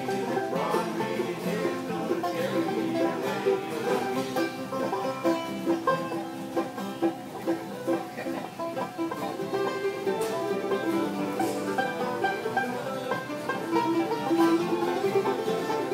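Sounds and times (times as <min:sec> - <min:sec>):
banjo: 0:00.0 - 0:15.9
fiddle: 0:00.0 - 0:15.9
slide resonator guitar: 0:00.0 - 0:15.9
upright bass: 0:00.0 - 0:15.9.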